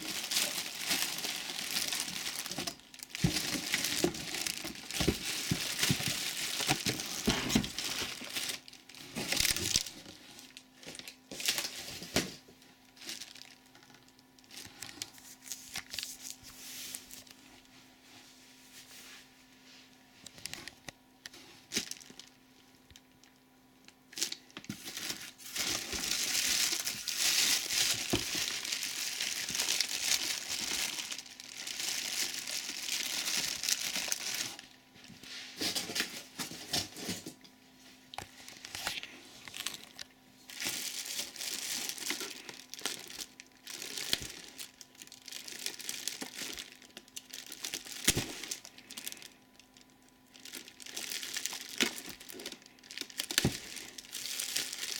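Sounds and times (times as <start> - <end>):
plastic bags crinkling: 0.0 - 17.7, 20.2 - 54.9.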